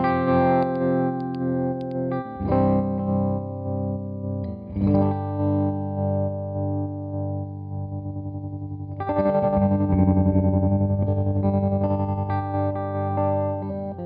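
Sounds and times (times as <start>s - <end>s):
electric guitar chords with tremolo: 0.0s - 14.0s.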